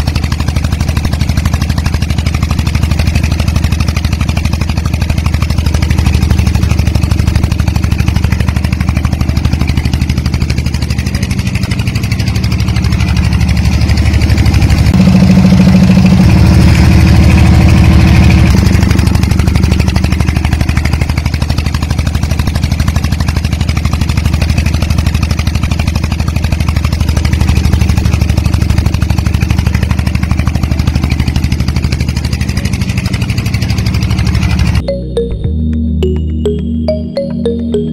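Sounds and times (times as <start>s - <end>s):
model engine humming: 0.0s - 34.8s.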